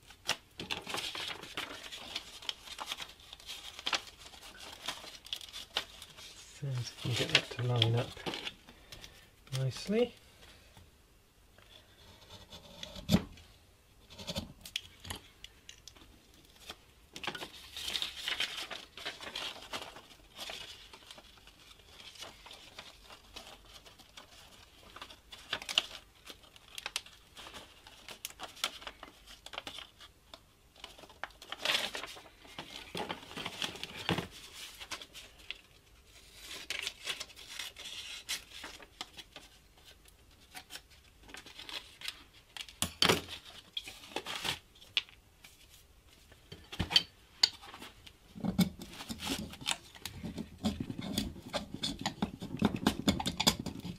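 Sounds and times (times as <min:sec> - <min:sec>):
paper rustling and crinkling: 0:00.0 - 0:10.2, 0:15.9 - 0:53.9.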